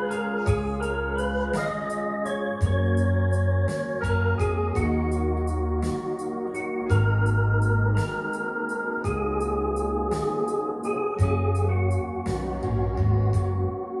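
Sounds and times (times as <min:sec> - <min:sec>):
electronic organ chords: 0:00.0 - 0:14.0
ticking rhythm track: 0:00.0 - 0:14.0.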